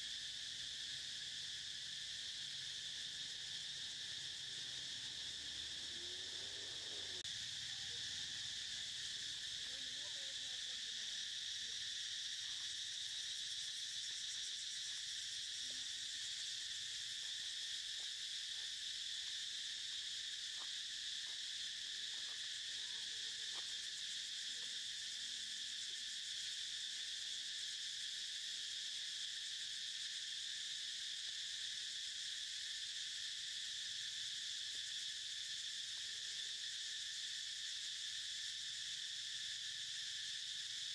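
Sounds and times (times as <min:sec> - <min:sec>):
faint insect calls and ticks: 0:00.0 - 0:40.9
insects buzzing: 0:00.0 - 0:40.9.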